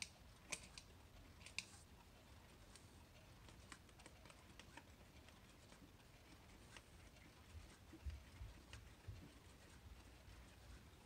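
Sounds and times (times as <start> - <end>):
clock movement clicking: 0.0 - 11.0.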